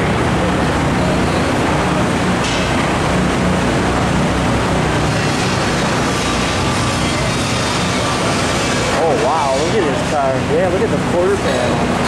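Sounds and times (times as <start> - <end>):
dense background din: 0.0 - 12.0
low engine drone: 0.0 - 12.0.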